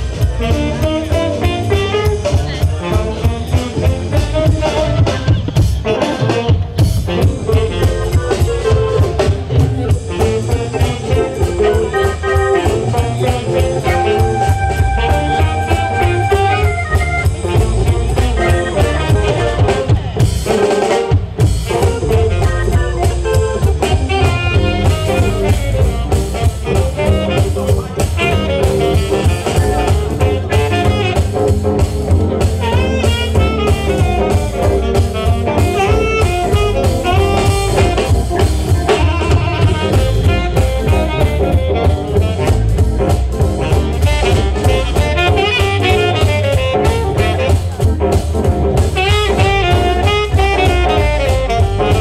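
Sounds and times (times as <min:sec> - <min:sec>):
blues band playing: 0:00.0 - 0:52.0
tenor saxophone lead: 0:00.1 - 0:52.0.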